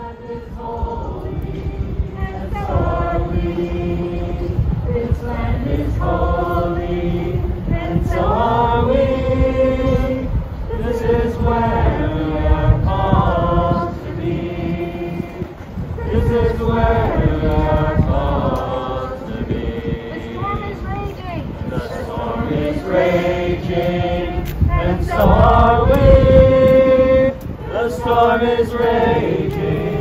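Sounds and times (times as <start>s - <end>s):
crowd singing together: 0.0s - 30.0s.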